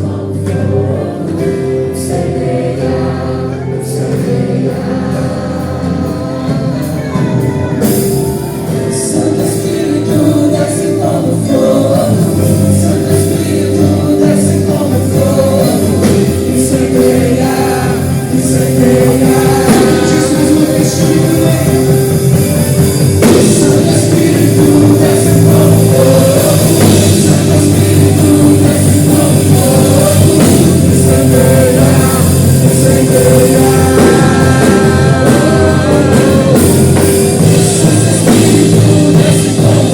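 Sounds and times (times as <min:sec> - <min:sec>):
gospel band with drum kit: 0:00.0 - 0:39.9
people singing: 0:00.0 - 0:39.9.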